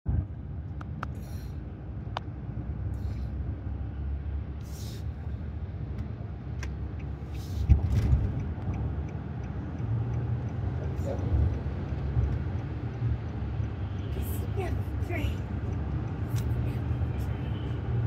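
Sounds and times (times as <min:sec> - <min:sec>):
car road noise rumble: 0:00.1 - 0:18.0.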